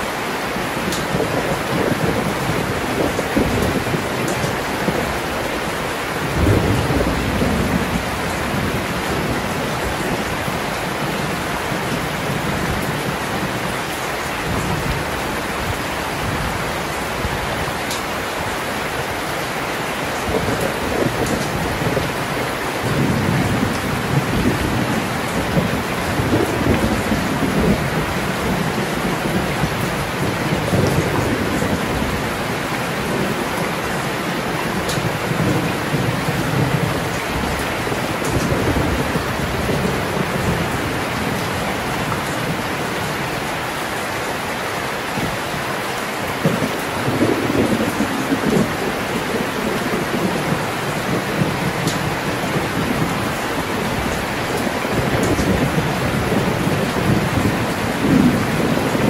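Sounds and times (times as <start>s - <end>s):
thunder rumbling: 0.0s - 43.7s, 46.3s - 59.0s
heavy rain pouring: 0.0s - 59.0s.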